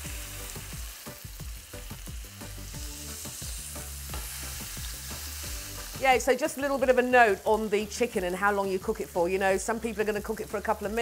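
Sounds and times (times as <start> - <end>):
chicken sizzling on grill pan: 0.0 - 11.0.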